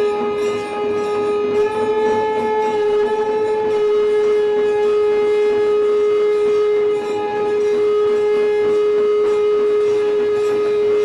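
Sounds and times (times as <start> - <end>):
conch shell blown in long note: 0.0 - 11.0.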